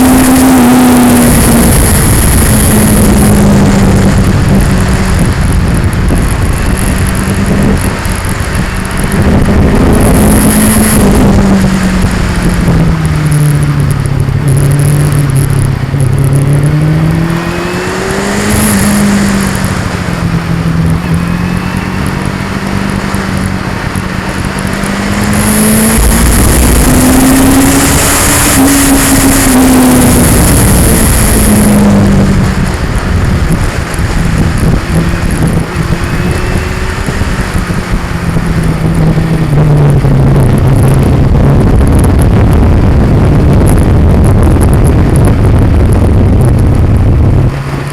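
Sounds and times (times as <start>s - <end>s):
motorcycle engine revving: 0.0s - 47.9s
wind noise on microphone: 0.0s - 47.9s.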